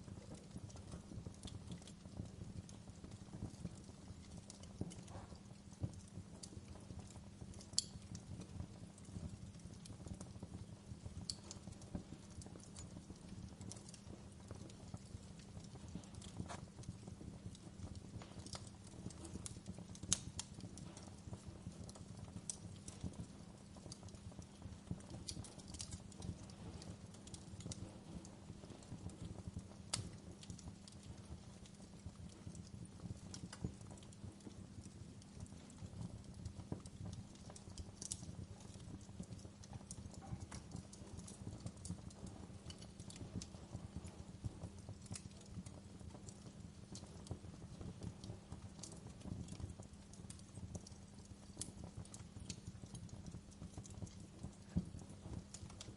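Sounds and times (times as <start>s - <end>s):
fire popping and snapping: 0.0s - 55.9s
low rumble of flames: 0.0s - 55.9s.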